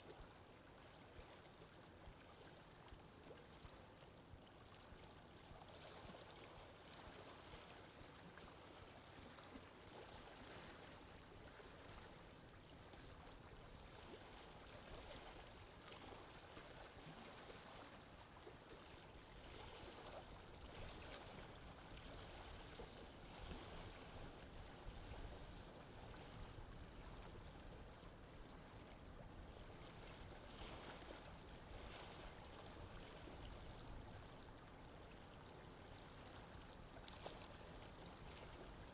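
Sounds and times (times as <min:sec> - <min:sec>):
lake water washing: 0:00.0 - 0:38.9.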